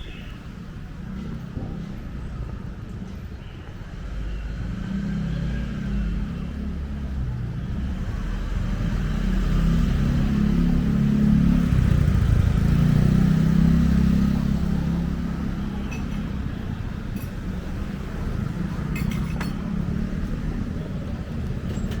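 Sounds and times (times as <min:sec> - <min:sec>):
vehicle engine rumbling past: 0:04.0 - 0:22.0.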